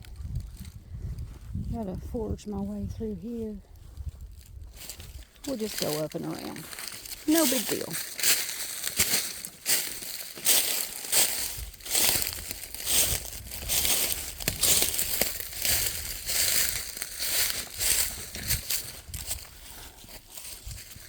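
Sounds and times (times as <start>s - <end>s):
footsteps crunching dry leaves: 3.9s - 21.0s.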